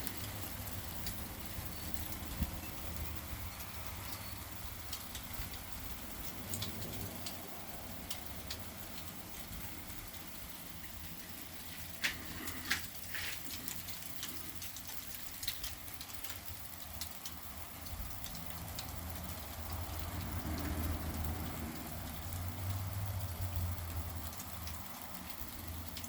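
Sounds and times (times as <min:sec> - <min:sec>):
pellets ticking on hard surfaces: 0:00.0 - 0:26.0.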